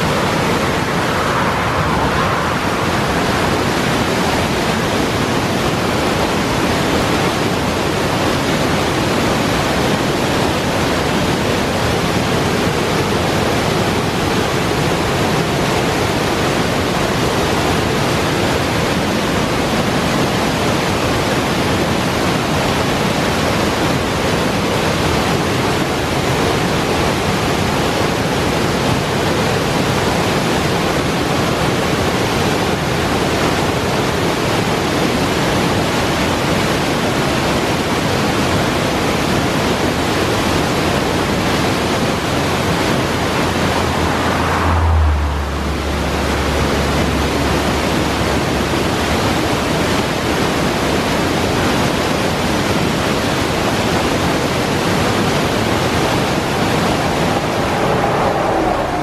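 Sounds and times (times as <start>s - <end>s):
waterfall roaring over boulders: 0.0s - 59.0s.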